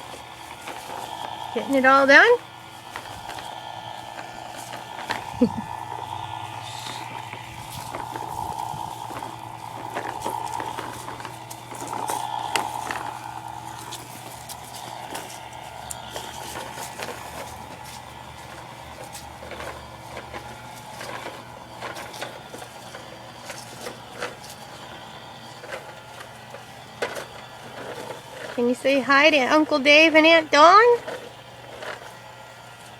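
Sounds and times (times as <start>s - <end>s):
toy lawnmower clicking and rattling: 0.0s - 32.9s.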